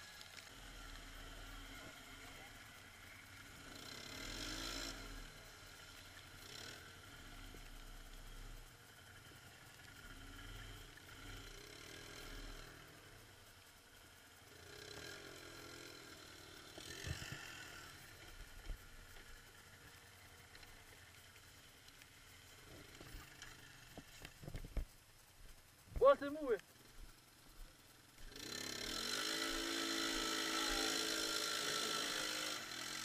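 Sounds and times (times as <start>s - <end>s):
atv engine revving: 0.0s - 25.3s, 26.4s - 33.0s.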